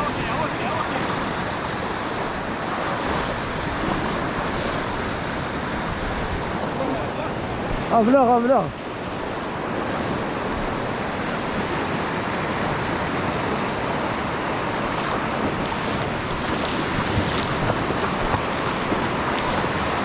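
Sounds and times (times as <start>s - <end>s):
wind on microphone: 0.0s - 8.0s, 8.7s - 20.0s
surf breaking on beach: 0.0s - 20.0s.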